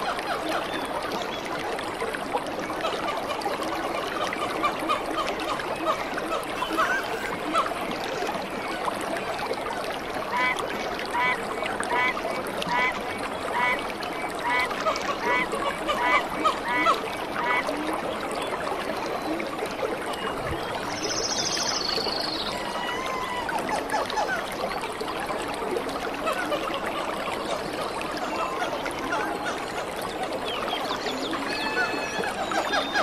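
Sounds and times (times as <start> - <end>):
stream water splashing: 0.0 - 33.0.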